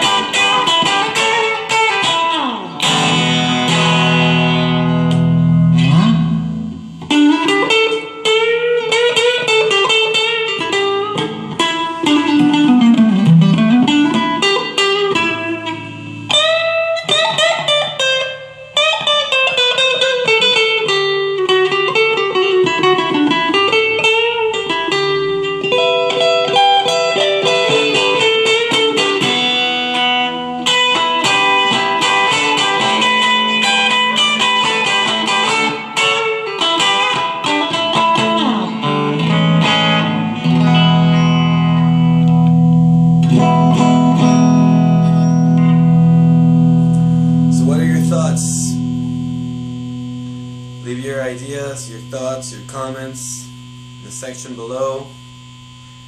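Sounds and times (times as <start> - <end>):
electric guitar notes and chords: 0.0 - 56.0.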